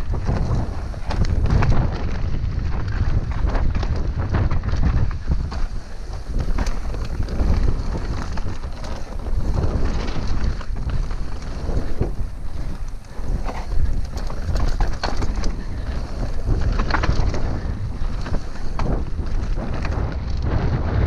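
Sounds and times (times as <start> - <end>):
bike rattling over bumps: 0.0 - 21.0
wind buffeting microphone: 0.0 - 21.0.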